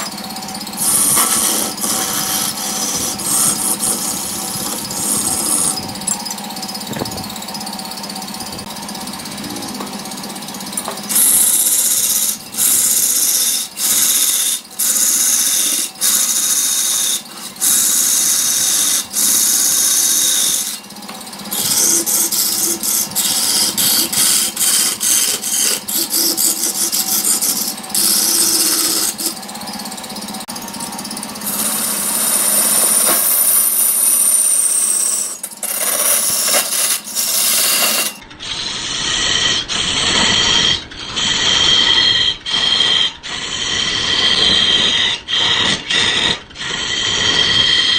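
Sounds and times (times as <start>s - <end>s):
lathe tool cutting wood: 0.0s - 47.9s.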